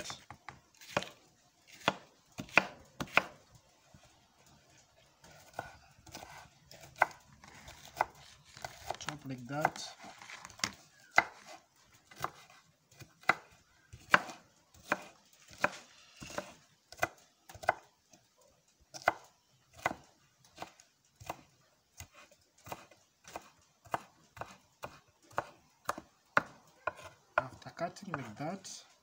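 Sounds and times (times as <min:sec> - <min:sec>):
knife chopping vegetables: 0:00.0 - 0:03.4, 0:05.2 - 0:17.9, 0:18.9 - 0:28.7.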